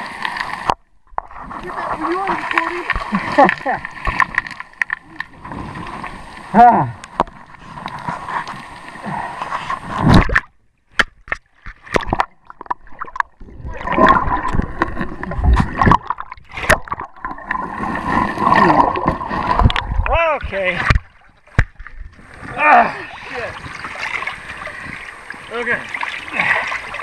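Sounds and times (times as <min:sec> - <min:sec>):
river water sloshing and gurgling: 0:00.0 - 0:10.5, 0:11.4 - 0:27.0.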